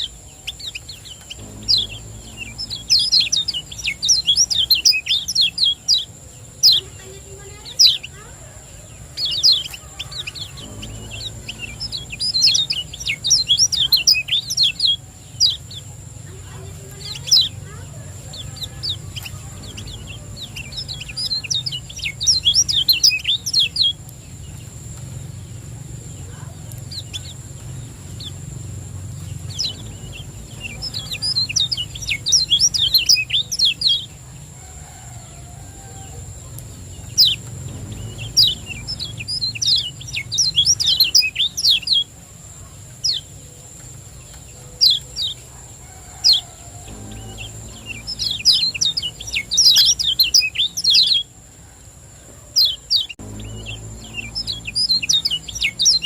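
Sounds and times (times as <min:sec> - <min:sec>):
steady low hum: 0:00.0 - 0:51.6, 0:53.0 - 0:56.0.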